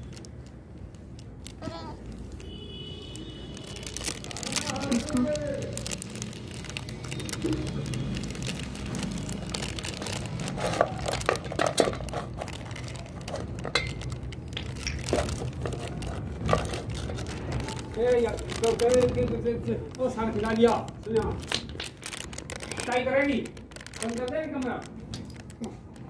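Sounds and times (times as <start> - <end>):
polythene sheets crinkling: 0.0 - 26.0.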